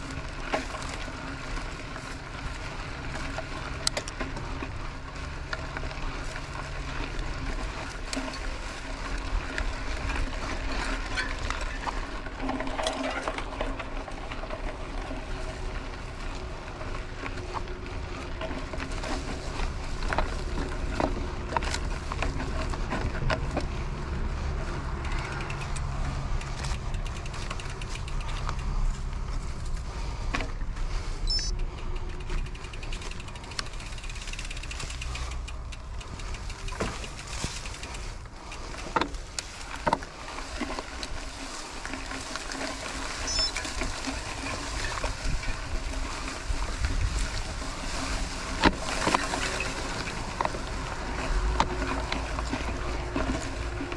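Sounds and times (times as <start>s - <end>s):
bike rattling over bumps: 0.0s - 53.9s
bike tyres rolling over gravel: 0.0s - 53.9s.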